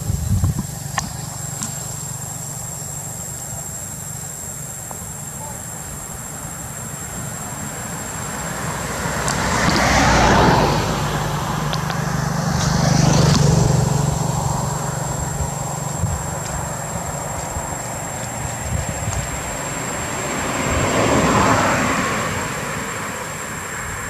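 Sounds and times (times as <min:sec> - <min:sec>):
motor vehicle passing: 0:00.0 - 0:24.0.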